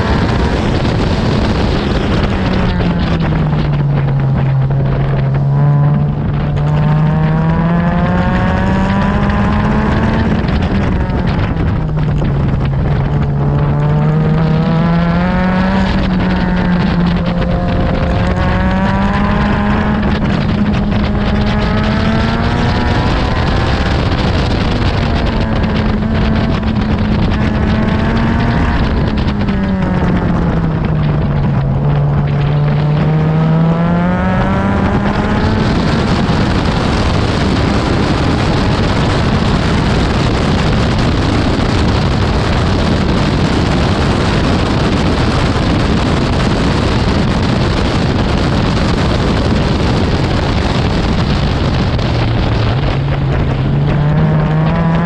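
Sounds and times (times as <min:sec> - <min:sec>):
car engine revving high: 0:00.0 - 0:55.0
wind on microphone: 0:00.0 - 0:55.0.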